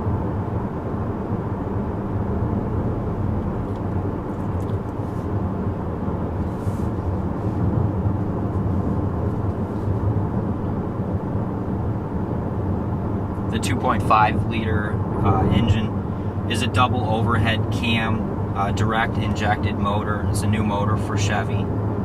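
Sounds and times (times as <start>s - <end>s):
road and engine noise in car: 0.0s - 22.0s.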